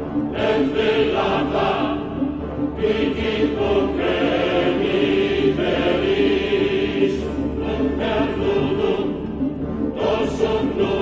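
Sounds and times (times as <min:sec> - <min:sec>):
choir singing held notes: 0:00.2 - 0:09.2, 0:10.0 - 0:11.0.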